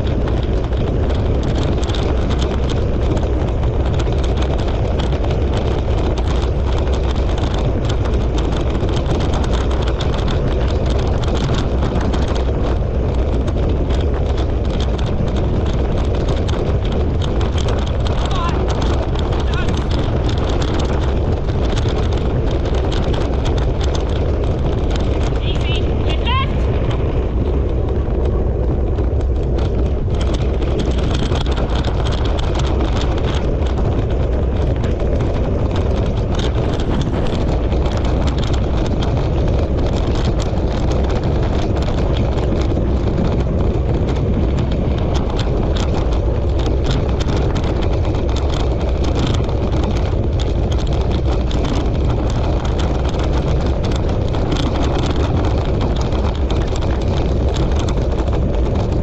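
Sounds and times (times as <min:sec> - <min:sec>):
wheeled rig rolling and rattling: 0:00.0 - 0:59.0
wind buffeting microphone: 0:00.0 - 0:59.0.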